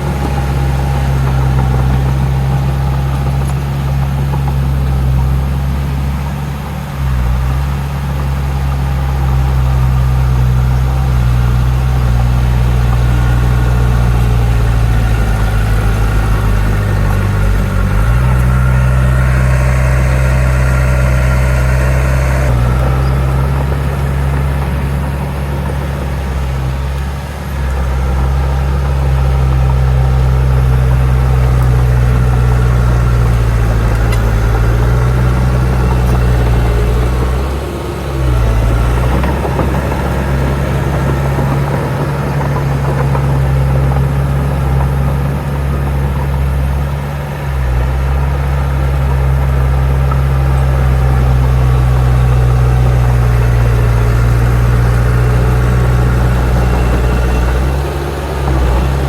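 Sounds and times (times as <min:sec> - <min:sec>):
heavy diesel engine droning: 0:00.0 - 0:59.0.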